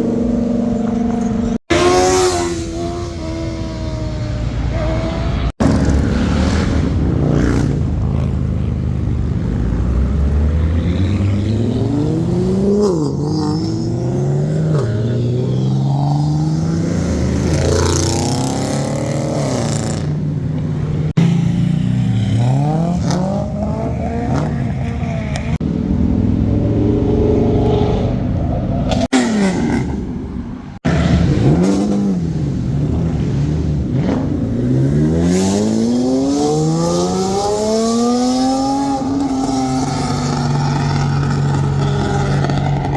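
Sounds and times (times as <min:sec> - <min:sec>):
car engines accelerating and revving: 0:00.0 - 0:42.9.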